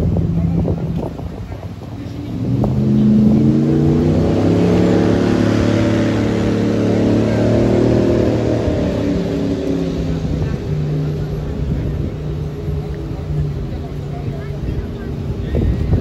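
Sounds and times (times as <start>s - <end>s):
airboat engine and propeller: 0.0s - 16.0s.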